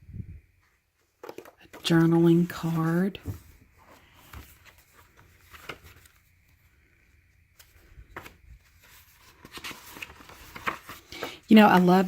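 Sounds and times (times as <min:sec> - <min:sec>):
paper pages rustling: 0:00.6 - 0:12.0.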